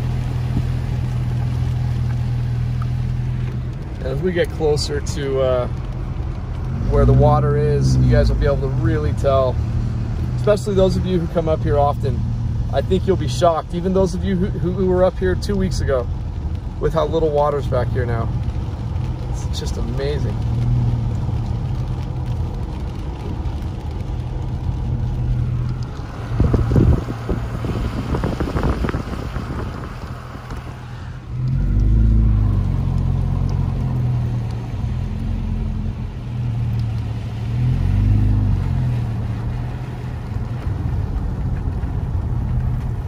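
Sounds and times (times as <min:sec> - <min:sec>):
car engine hum: 0:00.0 - 0:43.0
tyre noise on wet road: 0:00.0 - 0:43.0.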